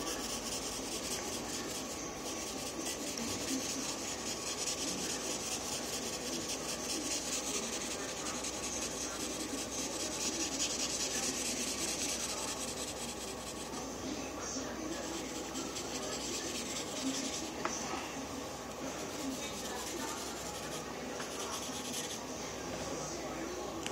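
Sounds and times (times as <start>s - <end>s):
marker scratching on paper: 0.0s - 13.8s, 14.9s - 17.6s, 18.9s - 22.2s.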